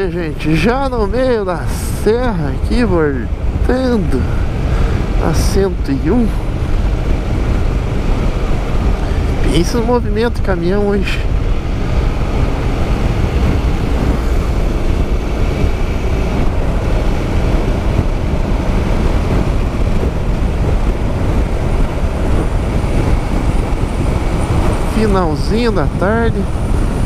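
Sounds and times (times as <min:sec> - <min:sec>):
motorcycle engine drone: 0:00.0 - 0:27.0
wind rush on microphone: 0:00.0 - 0:27.0.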